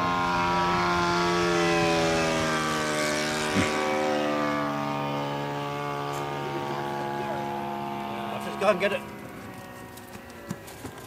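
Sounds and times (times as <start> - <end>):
model airplane engine running: 0.0 - 11.0.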